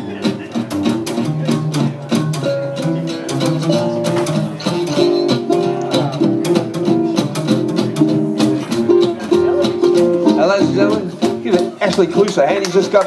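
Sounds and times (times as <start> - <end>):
acoustic band playing: 0.0 - 13.0.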